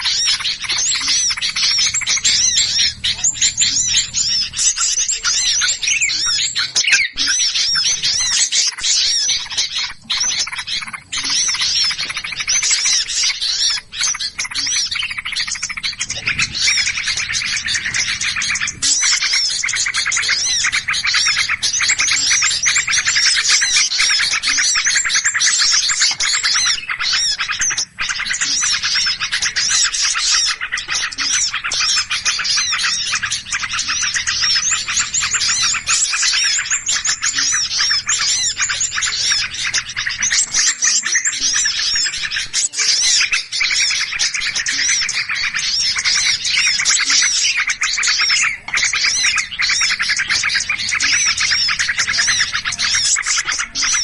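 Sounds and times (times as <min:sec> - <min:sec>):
many small birds chirping: 0:00.0 - 0:54.0.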